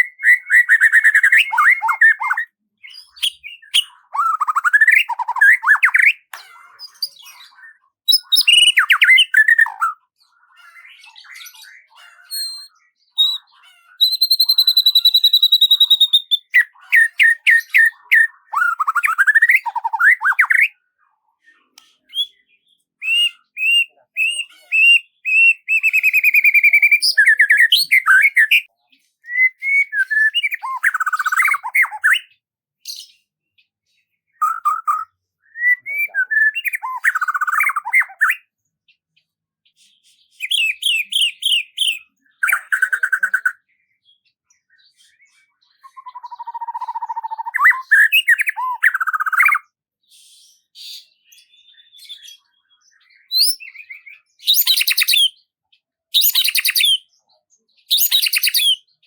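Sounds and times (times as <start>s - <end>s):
songbird singing: 0.0s - 20.9s, 21.5s - 38.6s, 40.3s - 49.8s, 50.6s - 59.0s.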